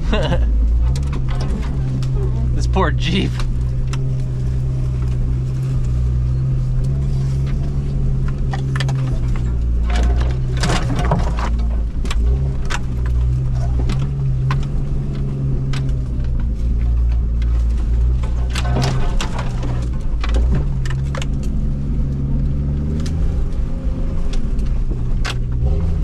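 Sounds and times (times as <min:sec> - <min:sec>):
car engine running: 0:00.0 - 0:26.0
vehicle clicks and knocks: 0:00.1 - 0:02.5, 0:03.2 - 0:26.0.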